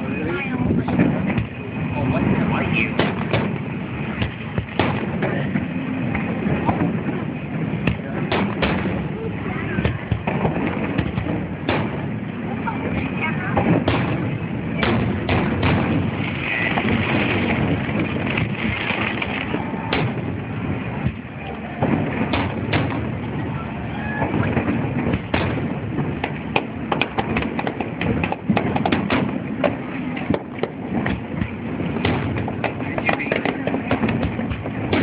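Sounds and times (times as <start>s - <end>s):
fireworks booming: 0.0s - 35.0s
rapid cracking fireworks: 0.0s - 35.0s.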